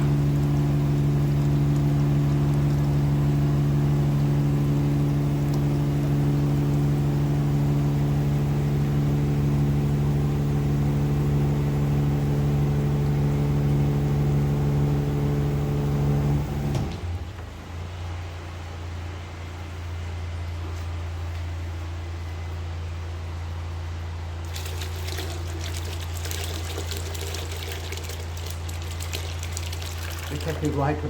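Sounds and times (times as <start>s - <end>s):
drain machine motor humming: 0.0s - 18.6s, 19.4s - 31.0s.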